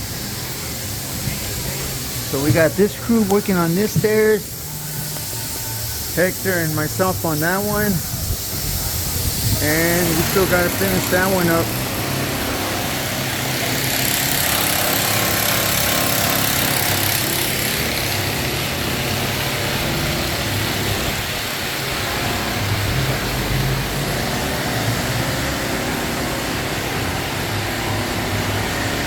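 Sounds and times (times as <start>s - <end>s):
chainsaw engine running: 0.4s - 8.1s, 9.0s - 29.0s.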